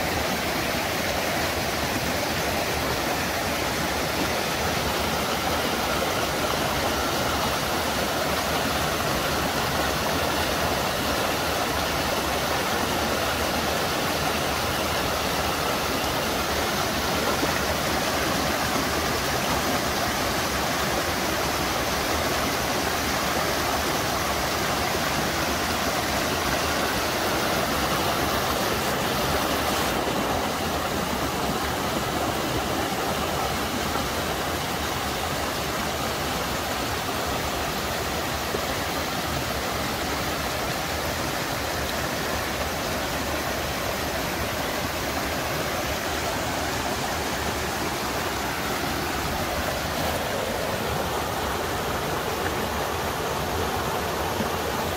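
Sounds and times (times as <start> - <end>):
water rushing over rapids: 0.0 - 54.9.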